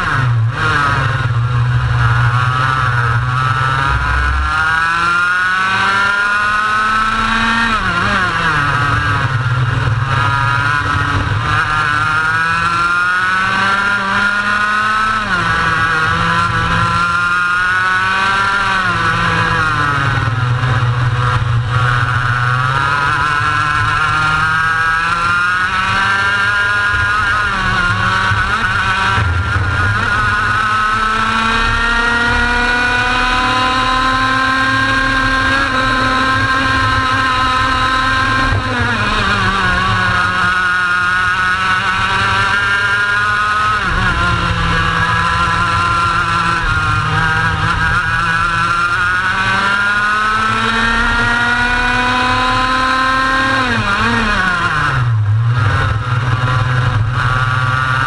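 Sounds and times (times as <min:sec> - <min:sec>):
racing kart engine: 0:00.0 - 0:58.0.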